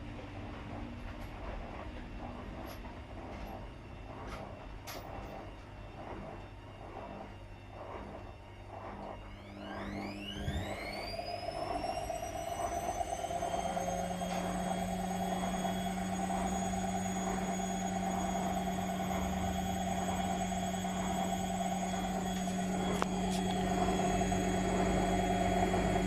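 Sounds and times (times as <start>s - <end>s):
steady low hum: 0.0s - 26.0s
washing machine motor whine: 0.0s - 26.0s.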